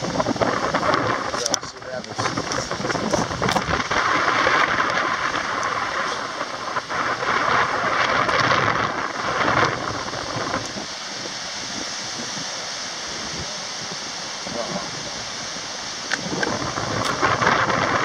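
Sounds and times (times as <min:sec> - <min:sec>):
bicycle tyres rolling on sand: 0:00.0 - 0:18.0
wind blowing across microphone: 0:00.0 - 0:18.0.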